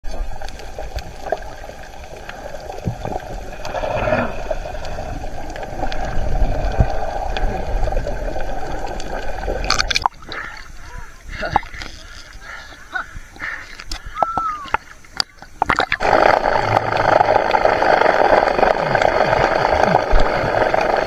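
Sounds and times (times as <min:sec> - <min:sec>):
muffled underwater rumble and hiss: 0:00.1 - 0:21.0.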